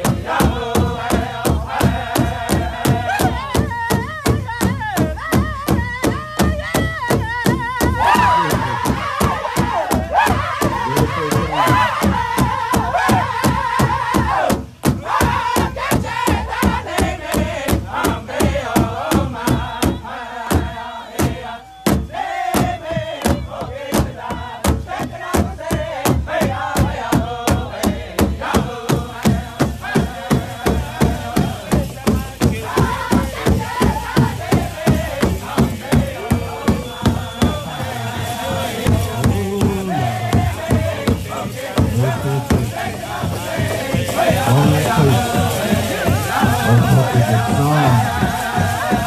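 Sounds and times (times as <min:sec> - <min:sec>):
group singing in unison: 0:00.0 - 0:49.0
large hide drum beating: 0:00.0 - 0:49.0.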